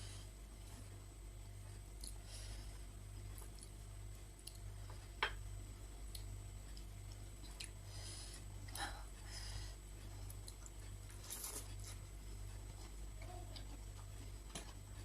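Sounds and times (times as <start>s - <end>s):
low steady hum: 0.0s - 15.0s
soft chewing: 0.5s - 5.2s, 6.0s - 15.0s.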